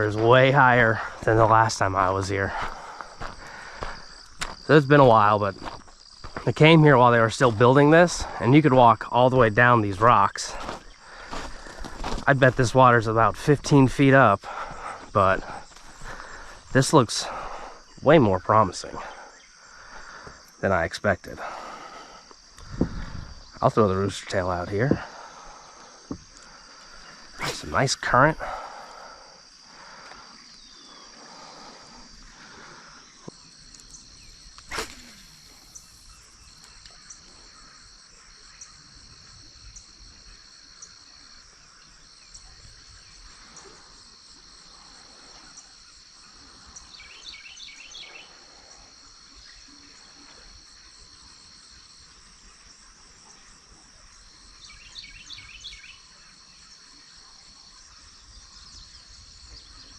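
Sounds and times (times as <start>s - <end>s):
insect trilling: 0.0s - 59.9s.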